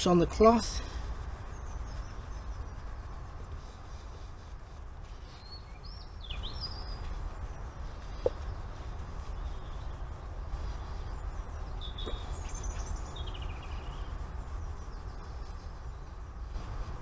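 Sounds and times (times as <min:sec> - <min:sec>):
low outdoor rumble: 0:00.0 - 0:17.0
small bird chirping: 0:00.0 - 0:17.0.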